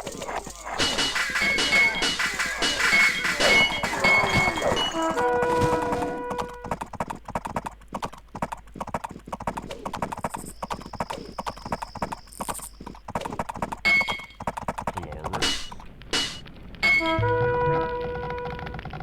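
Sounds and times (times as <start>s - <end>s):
sharp clopping knocks: 0.0s - 19.0s.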